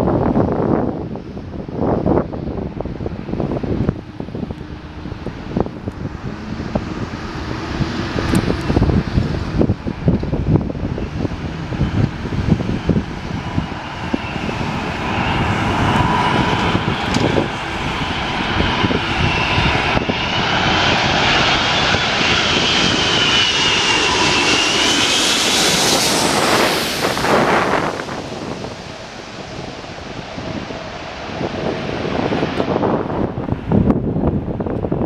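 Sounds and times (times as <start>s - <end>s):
airliner passing overhead: 0.0s - 35.0s
wind buffeting microphone: 0.0s - 35.0s.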